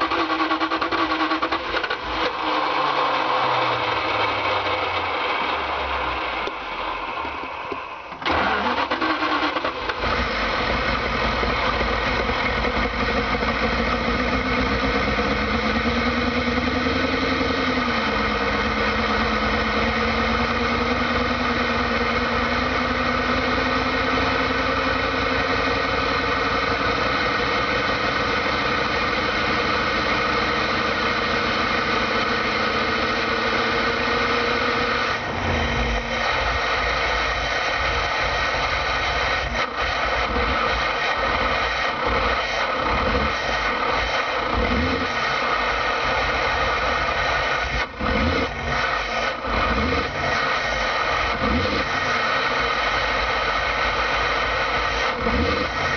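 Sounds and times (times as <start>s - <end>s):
van engine cranking and idling: 0.0s - 55.9s.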